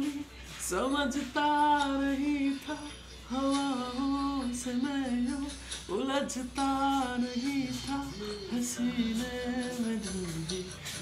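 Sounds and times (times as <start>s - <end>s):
person singing slow melody: 0.0s - 11.0s.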